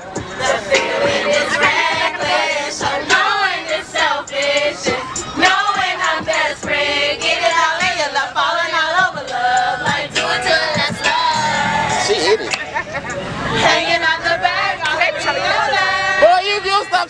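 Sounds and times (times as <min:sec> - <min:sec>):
group singing along: 0:00.0 - 0:12.8, 0:13.4 - 0:16.4
recorded song: 0:00.0 - 0:17.0.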